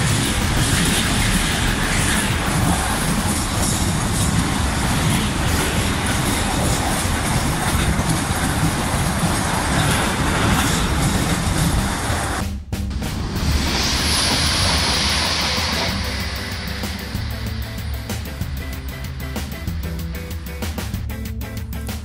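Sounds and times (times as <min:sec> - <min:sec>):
freight train wheels rumbling on track: 0:00.0 - 0:22.0.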